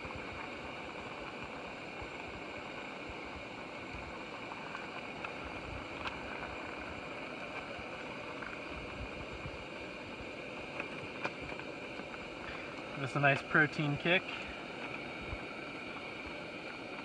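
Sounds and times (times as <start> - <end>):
camping stove burner hissing: 0.0 - 17.0.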